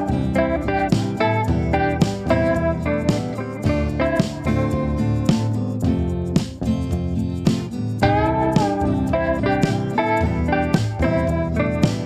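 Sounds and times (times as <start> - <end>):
country-style guitar music: 0.0 - 12.0.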